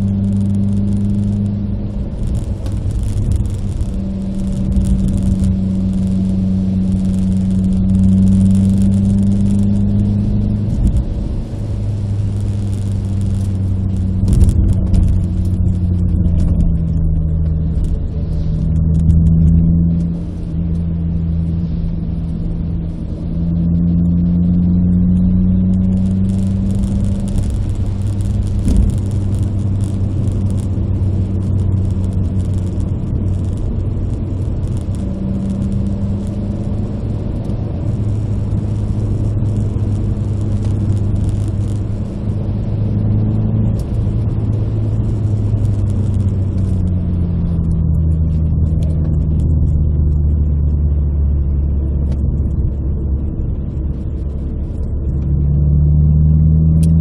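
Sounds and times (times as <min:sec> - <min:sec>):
car engine from inside cabin: 0:00.0 - 0:57.0
tyre and road noise: 0:00.0 - 0:57.0.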